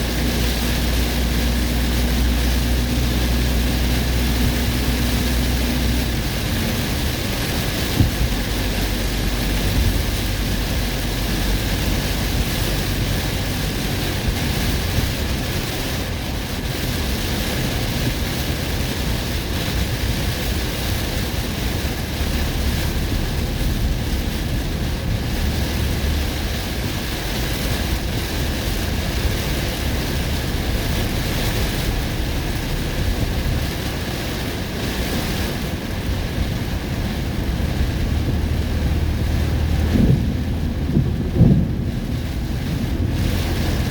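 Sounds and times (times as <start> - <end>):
rain: 0.0 - 43.9
wind buffeting microphone: 0.0 - 43.9.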